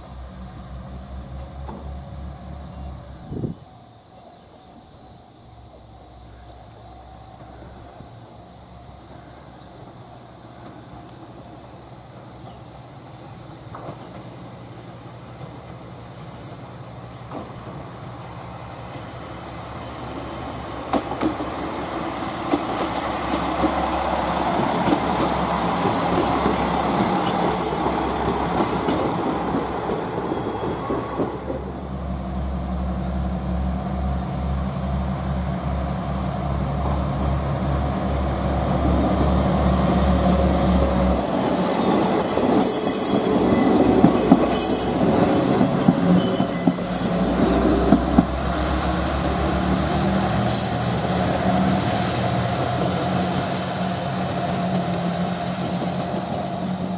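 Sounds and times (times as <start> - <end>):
train running on rails: 0.0 - 56.9.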